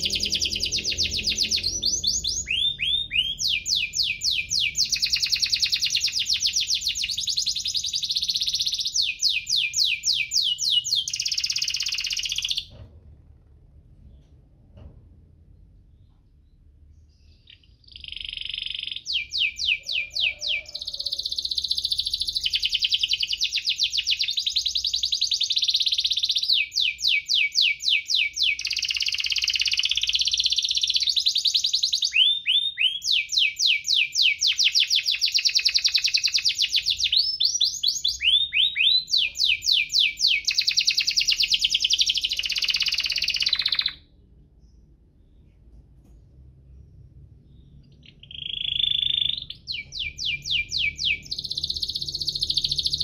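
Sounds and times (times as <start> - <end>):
canary singing trills: 0.0 - 12.8, 15.9 - 45.5, 46.7 - 53.0.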